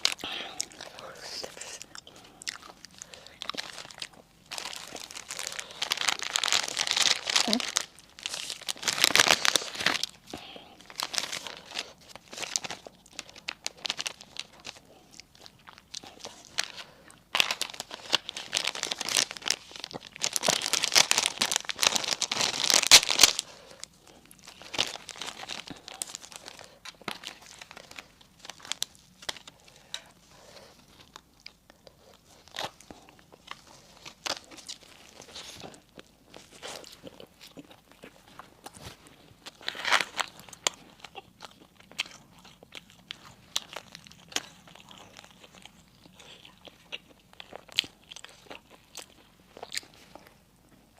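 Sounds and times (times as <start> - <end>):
crunching and chewing bread: 0.0 - 50.9
wrapping crinkling and tearing: 0.0 - 50.9.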